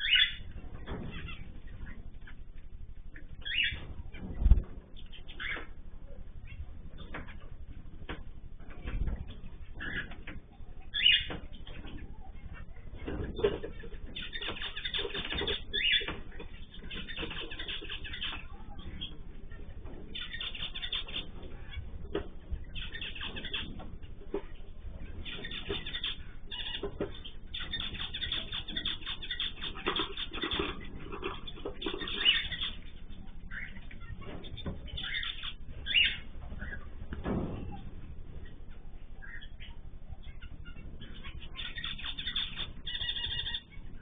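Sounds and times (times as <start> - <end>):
cage birds chirping: 0.0 - 44.0.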